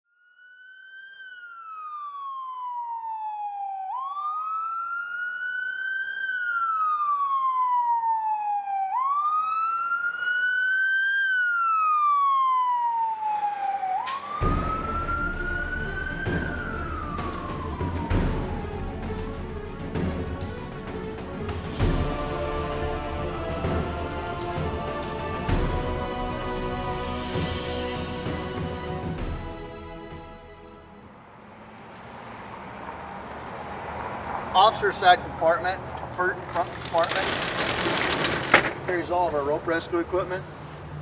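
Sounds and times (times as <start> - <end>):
emergency siren wailing: 0.2 - 41.0.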